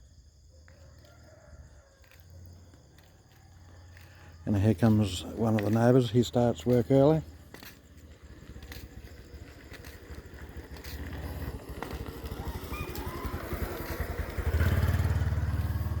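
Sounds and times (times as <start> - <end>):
motorcycle engine approaching: 0.7 - 16.0.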